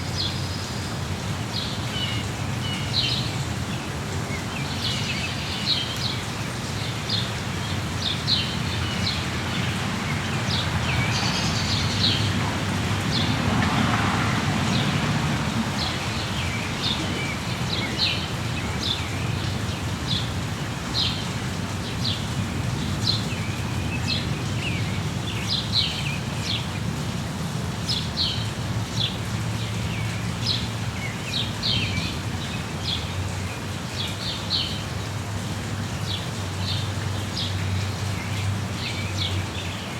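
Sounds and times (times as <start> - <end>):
rainforest noise wash: 0.0 - 39.9.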